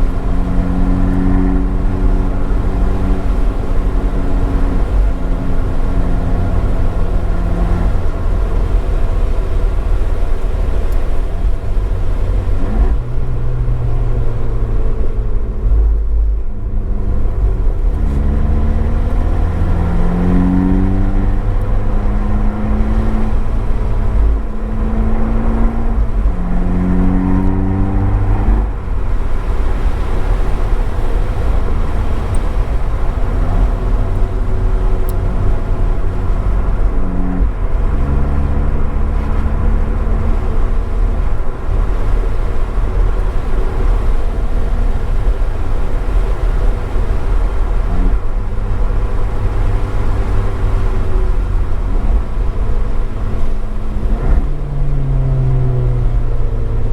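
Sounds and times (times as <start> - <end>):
car engine accelerating: 0.0 - 56.9
road and wind noise: 0.0 - 56.9.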